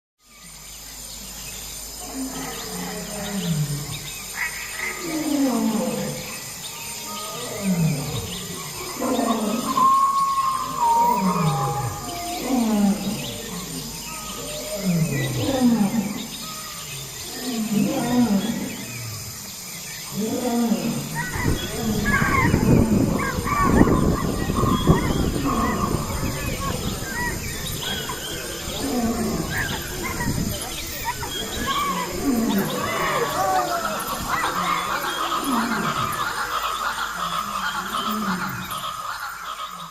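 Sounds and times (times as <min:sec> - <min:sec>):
tiger roaring and growling: 0:02.0 - 0:19.4, 0:20.0 - 0:38.8.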